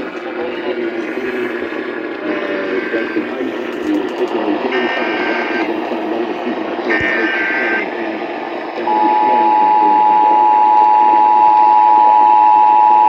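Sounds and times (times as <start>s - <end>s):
am radio static: 0.0s - 12.4s.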